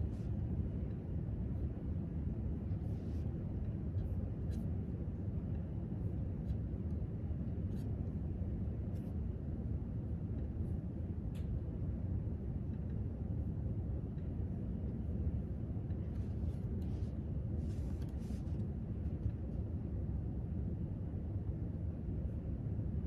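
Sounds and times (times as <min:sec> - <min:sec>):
low room rumble: 0:00.0 - 0:23.0.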